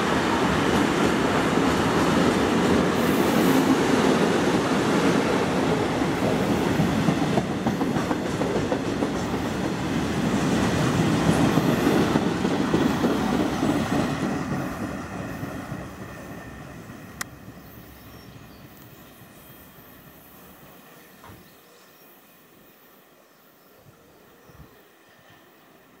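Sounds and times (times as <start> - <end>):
train wheels rumbling on rails: 0.0 - 21.7.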